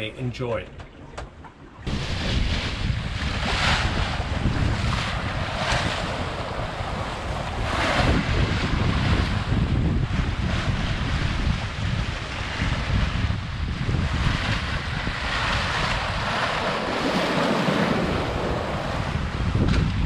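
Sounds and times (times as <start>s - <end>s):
wind buffeting microphone: 0.8s - 20.0s
bow wave rushing and splashing: 1.5s - 20.0s.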